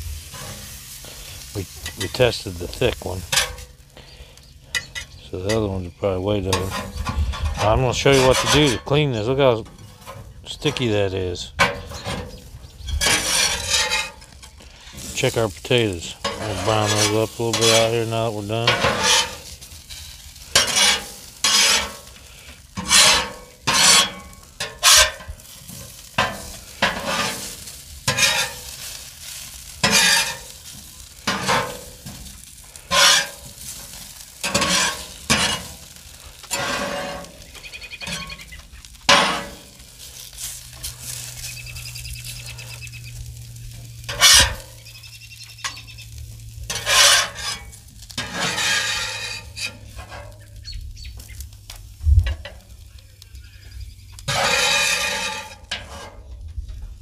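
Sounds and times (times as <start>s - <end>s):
metal spatula scraping griddle: 0.0s - 52.8s, 53.5s - 56.4s
frying sizzle: 0.0s - 57.0s.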